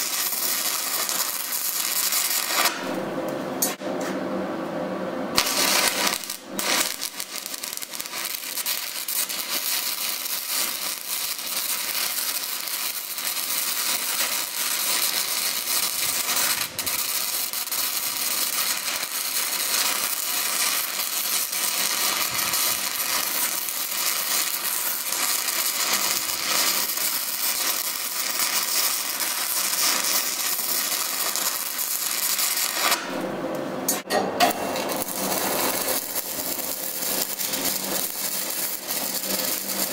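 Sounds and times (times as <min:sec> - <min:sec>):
welding arc crackling and hissing: 0:00.0 - 0:03.0, 0:05.3 - 0:33.2, 0:33.9 - 0:39.9.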